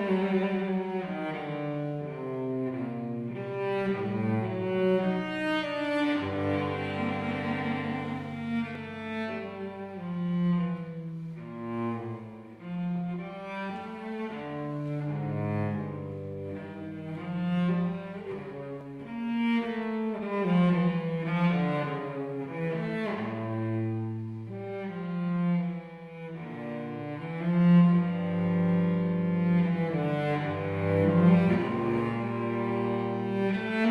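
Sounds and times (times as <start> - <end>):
cello bowed melody: 0.0 - 33.9.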